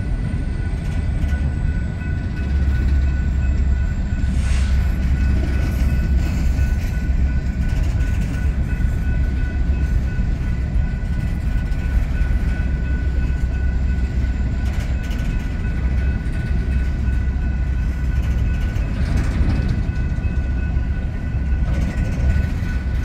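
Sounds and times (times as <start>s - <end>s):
freight train wheels rumbling on rail: 0.0s - 23.0s.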